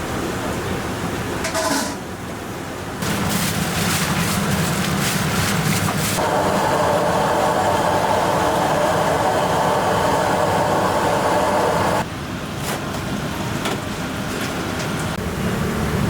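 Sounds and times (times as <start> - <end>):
kitchen roaring noise: 1.3 - 2.4, 3.0 - 16.0.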